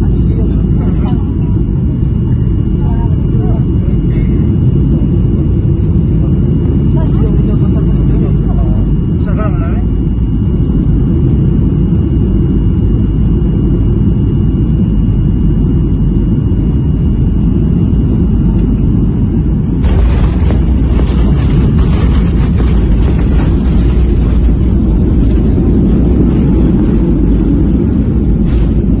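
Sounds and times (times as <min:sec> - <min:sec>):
jet cabin engine rumble: 0:00.0 - 0:29.0.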